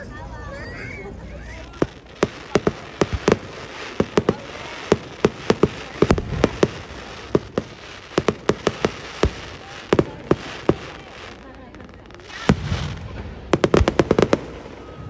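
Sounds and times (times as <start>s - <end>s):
firework shells bursting: 1.8s - 15.0s.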